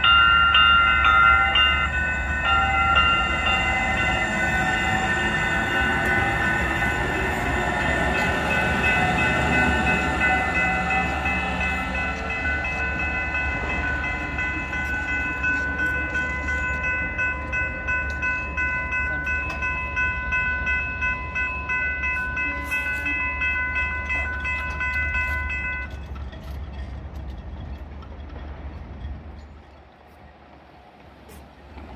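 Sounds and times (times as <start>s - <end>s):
railroad crossing bell ringing: 0.0s - 28.0s.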